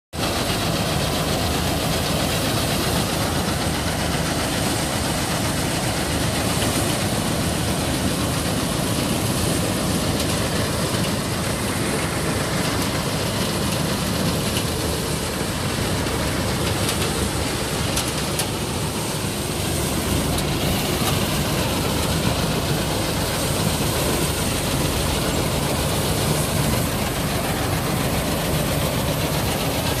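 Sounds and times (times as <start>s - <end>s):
tractor and harvester running: 0.2s - 30.0s.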